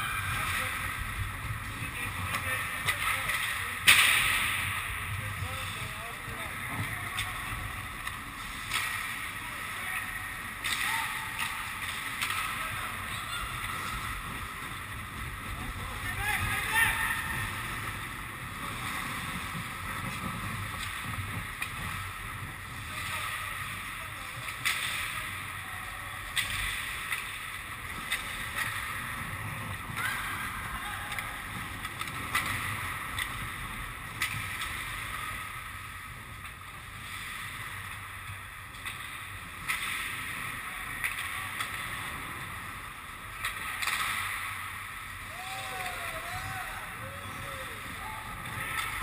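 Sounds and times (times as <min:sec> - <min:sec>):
hockey sticks and puck clacking: 0:00.0 - 0:49.0
skates scraping on ice: 0:00.0 - 0:49.0.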